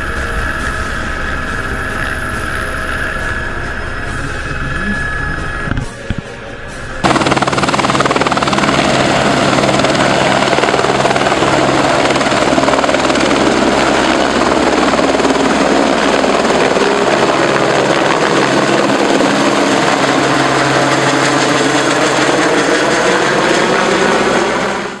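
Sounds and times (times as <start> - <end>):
helicopter rotors beating: 0.0 - 25.0
helicopter turbine whine: 0.0 - 25.0.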